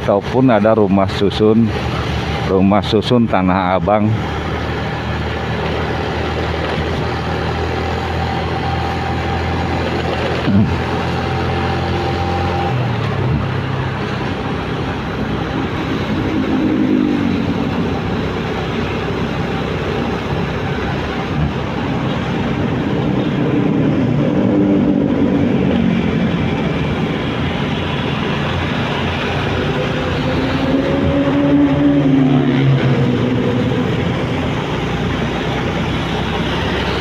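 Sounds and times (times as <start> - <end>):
motorcycle engine: 0.0 - 37.0
wind and road noise: 0.0 - 37.0.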